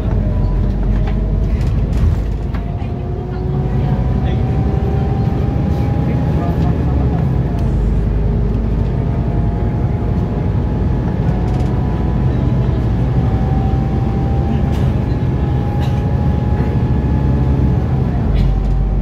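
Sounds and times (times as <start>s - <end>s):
bus engine and road drone: 0.0s - 19.0s.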